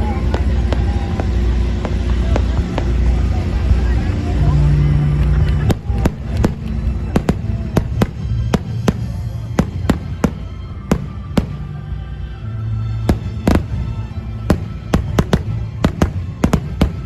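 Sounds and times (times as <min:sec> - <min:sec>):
fireworks bangs: 0:00.0 - 0:04.1, 0:04.9 - 0:11.8, 0:13.0 - 0:17.0
background music: 0:00.0 - 0:17.0
low rumble: 0:00.0 - 0:17.0.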